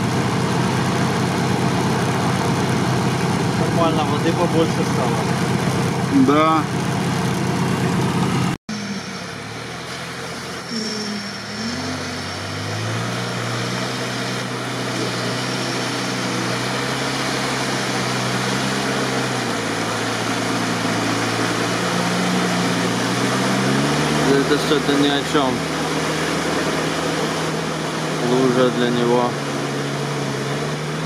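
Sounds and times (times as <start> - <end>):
off-road vehicle engine under load: 0.0 - 31.0.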